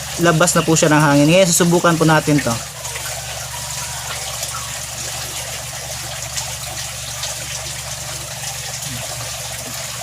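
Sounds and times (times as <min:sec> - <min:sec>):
air pump hum: 0:00.0 - 0:10.0
aquarium water bubbling: 0:00.0 - 0:10.0.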